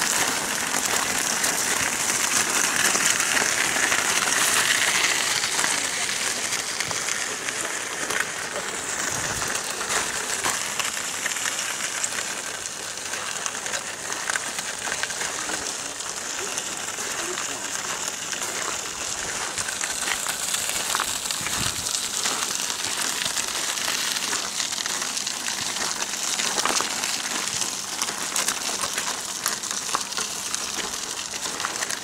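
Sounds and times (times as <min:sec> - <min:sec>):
wheelchair wheels rolling on gravel: 0:00.0 - 0:32.0.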